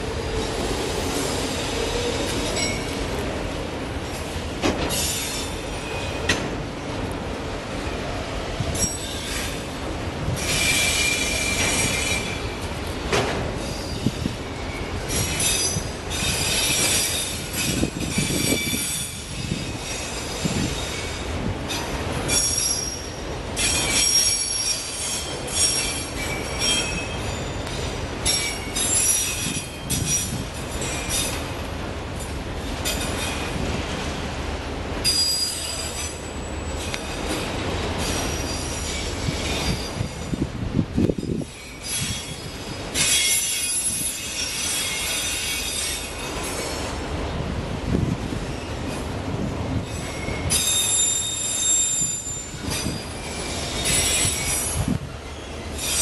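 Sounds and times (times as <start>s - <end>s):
train wheels squealing: 0.0s - 3.1s, 4.9s - 6.5s, 8.6s - 12.7s, 13.6s - 31.6s, 32.6s - 33.7s, 35.0s - 40.4s, 41.0s - 47.1s, 49.7s - 56.0s
train low rumble: 0.0s - 56.0s.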